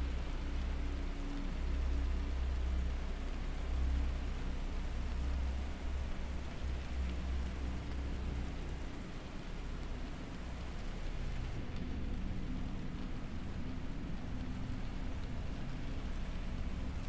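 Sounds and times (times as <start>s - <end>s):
even hiss like rain: 0.0s - 17.0s.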